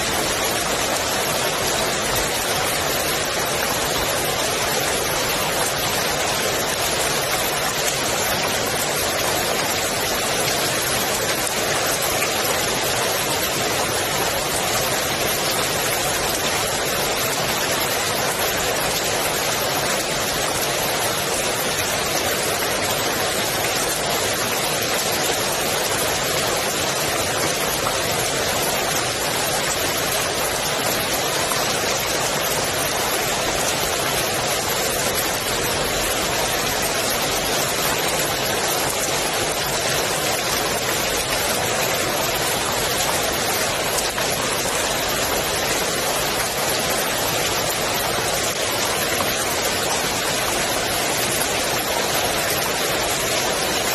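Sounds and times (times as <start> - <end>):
rain falling on pool water: 0.0 - 53.9.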